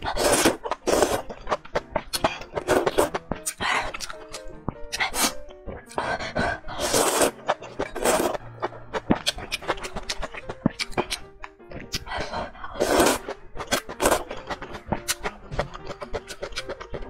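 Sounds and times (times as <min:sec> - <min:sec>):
noodles slurped: 0:00.0 - 0:11.2, 0:11.8 - 0:17.0
wet chewing clicks: 0:00.6 - 0:06.1, 0:07.3 - 0:12.3, 0:13.2 - 0:17.0.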